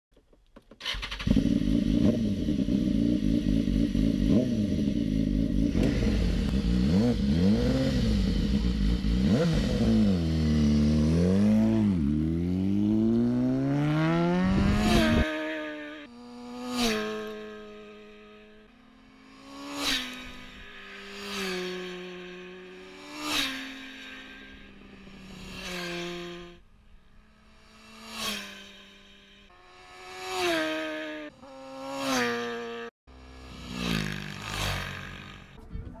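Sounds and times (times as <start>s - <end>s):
motorcycle engine revving: 0.8s - 36.0s.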